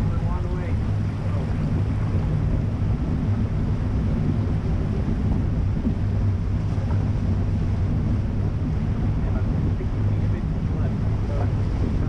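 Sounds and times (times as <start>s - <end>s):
car rumbling: 0.0s - 12.0s
water washing around car: 0.0s - 12.0s
wind buffeting microphone: 0.0s - 12.0s.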